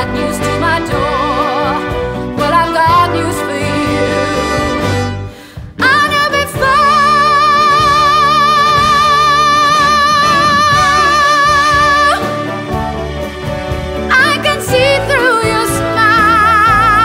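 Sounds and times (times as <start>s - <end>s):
band accompaniment: 0.0s - 17.0s.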